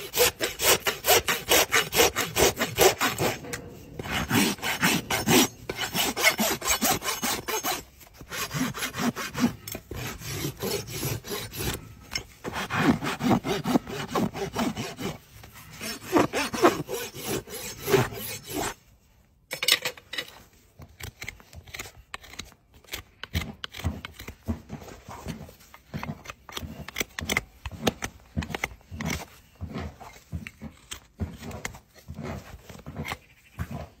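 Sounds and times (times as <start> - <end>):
hoof knife scraping: 0.0 - 19.1, 20.2 - 34.0
rasp filing a hoof: 0.0 - 19.1, 20.3 - 34.0.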